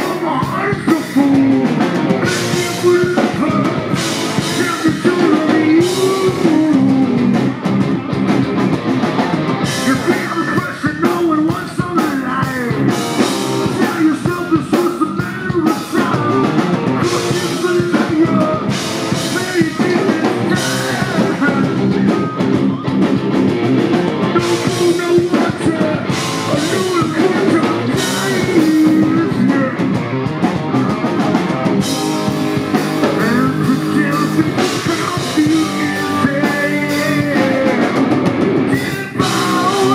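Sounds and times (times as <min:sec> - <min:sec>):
person singing: 0:00.0 - 0:07.9, 0:09.6 - 0:23.3, 0:24.1 - 0:39.9
bass guitar: 0:00.0 - 0:39.9
drum kit: 0:00.0 - 0:39.9
electric guitar: 0:00.0 - 0:39.9.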